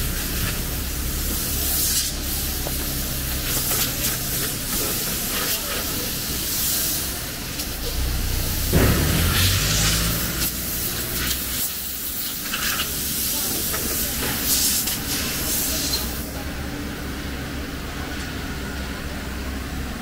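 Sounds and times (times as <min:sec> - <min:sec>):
bright hiss: 0:00.0 - 0:16.4.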